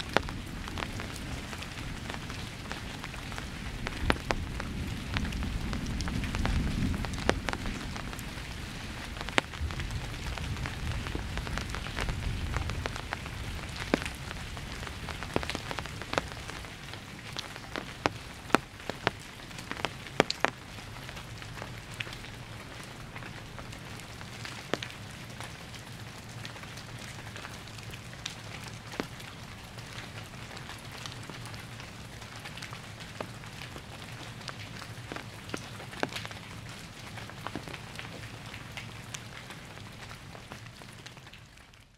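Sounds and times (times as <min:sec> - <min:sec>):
raindrops ticking on a surface: 0:00.0 - 0:41.9
steady rain: 0:00.0 - 0:41.9.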